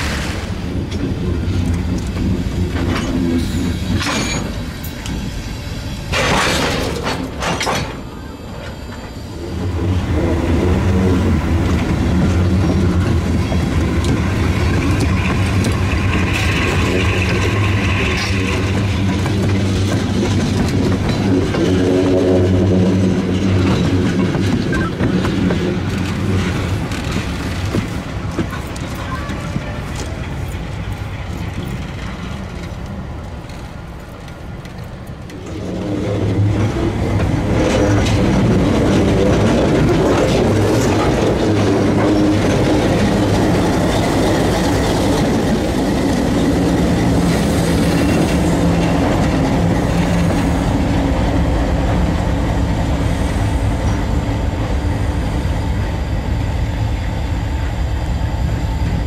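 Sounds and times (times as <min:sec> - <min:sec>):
diesel locomotive engine running: 0:00.0 - 0:59.0
wheel and rail noise: 0:00.0 - 0:59.0.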